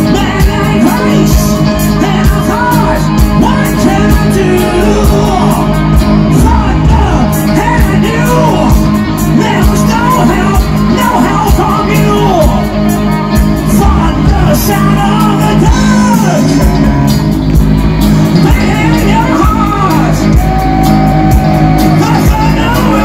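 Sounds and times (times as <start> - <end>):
man singing and shouting: 0.0 - 17.1, 18.3 - 23.0.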